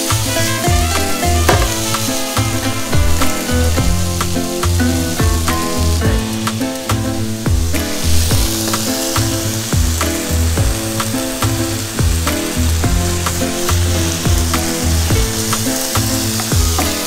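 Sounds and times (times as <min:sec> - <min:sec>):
background music with beat and bass: 0:00.0 - 0:17.0
food sizzling in a frying pan: 0:00.0 - 0:17.0.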